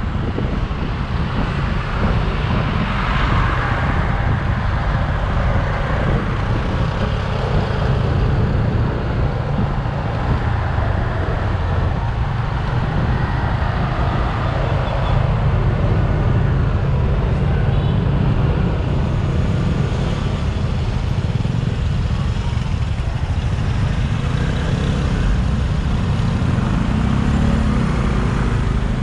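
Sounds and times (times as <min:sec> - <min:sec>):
motorcycle engine and traffic rumble: 0:00.0 - 0:29.0.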